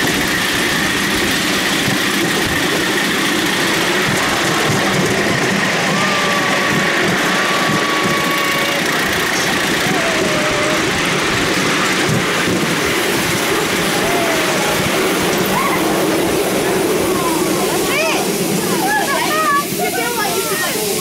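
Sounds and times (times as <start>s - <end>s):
miniature train rushing along track: 0.0s - 21.0s.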